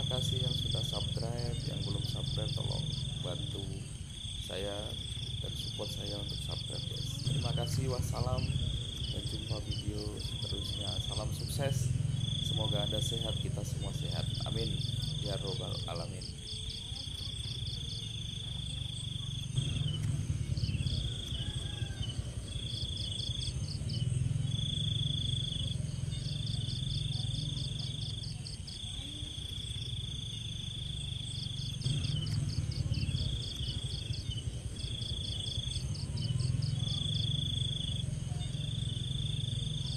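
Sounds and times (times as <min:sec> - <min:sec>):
crickets chirping in trills: 0:00.0 - 0:39.9
steady low rumble: 0:00.0 - 0:39.9.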